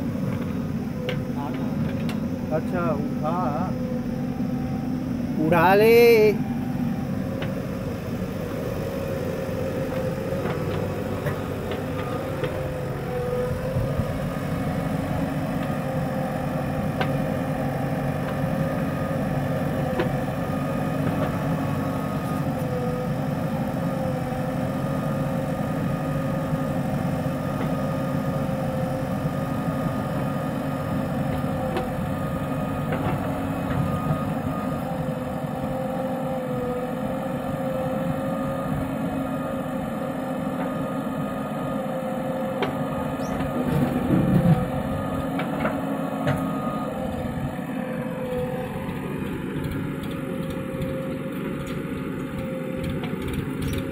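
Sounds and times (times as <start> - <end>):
diesel engines idling: 0.0 - 53.9.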